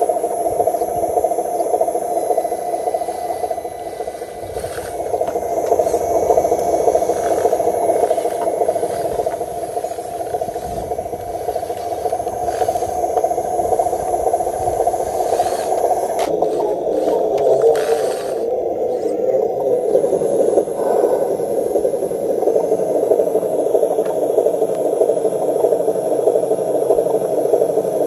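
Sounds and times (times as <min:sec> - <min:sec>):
electric motor whirring: 0:00.0 - 0:23.5.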